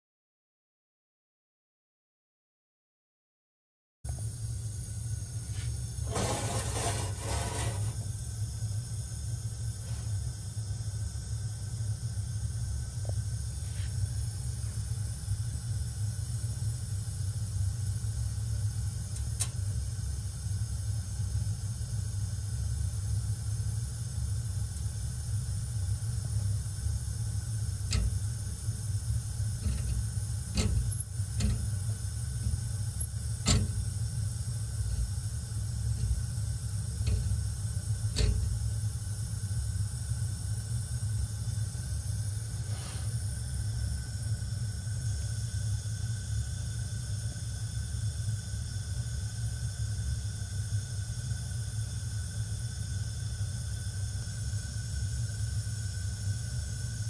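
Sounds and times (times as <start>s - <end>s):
burner flame rumble and hiss: 4.1s - 57.0s.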